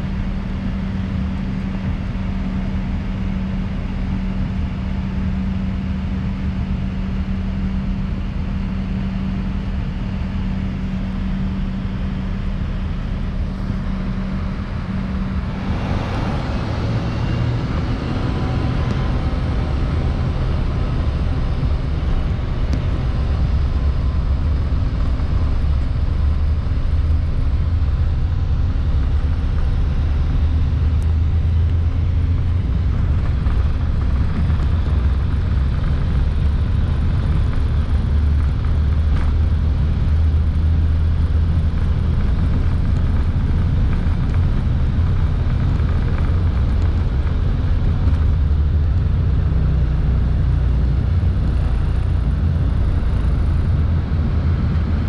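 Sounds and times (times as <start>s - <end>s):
jet engine noise: 0.0s - 55.0s
wheels rumbling on runway: 0.0s - 55.0s.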